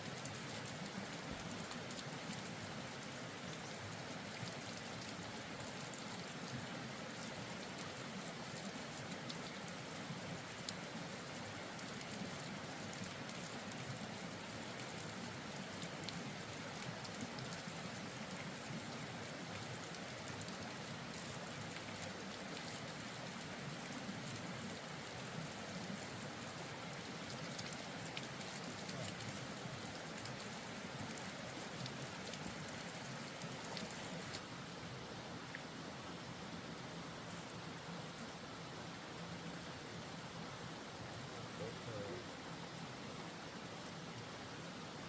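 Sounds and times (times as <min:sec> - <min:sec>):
falling water patter: 0:00.0 - 0:34.8, 0:39.6 - 0:43.0.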